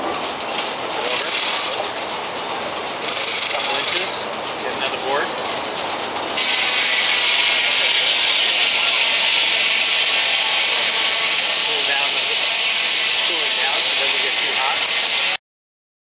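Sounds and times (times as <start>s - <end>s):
steam hissing: 0.0s - 15.4s.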